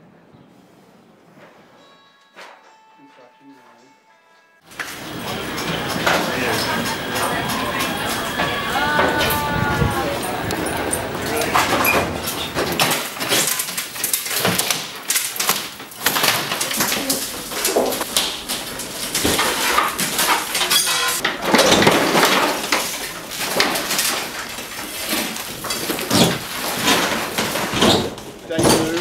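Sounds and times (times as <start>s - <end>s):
demolition knocks and crashes: 4.7s - 29.0s.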